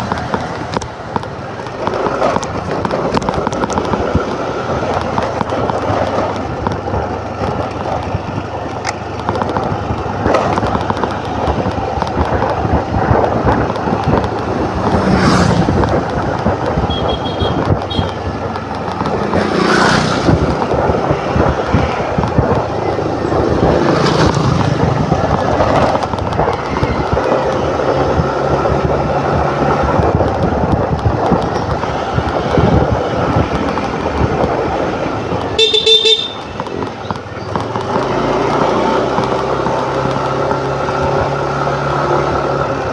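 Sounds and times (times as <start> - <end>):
scooter engine: 0.0 - 42.9
vehicles whooshing past: 0.0 - 42.9
wind rush on microphone: 0.0 - 42.9.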